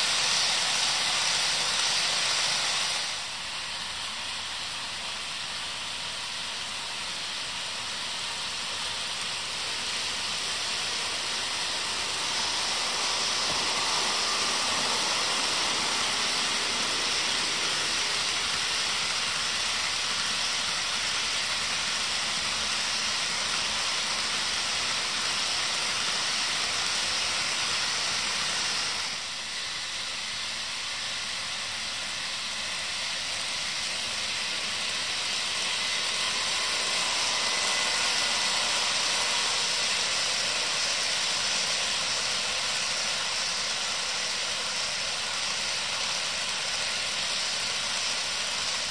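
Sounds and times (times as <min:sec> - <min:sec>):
model locomotive motors: 0:00.0 - 0:48.9
model train wheels rolling: 0:00.0 - 0:48.9.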